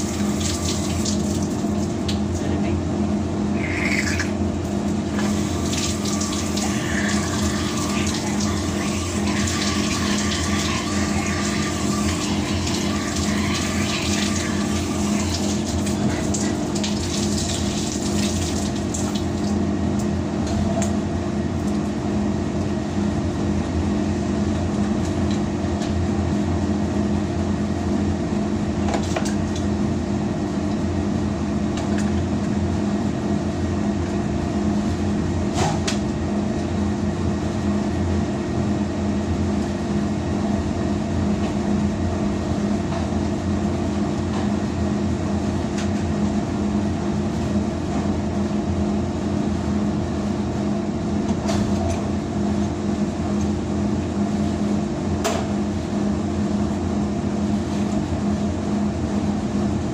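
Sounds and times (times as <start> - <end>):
laundry machinery humming: 0.0 - 59.9.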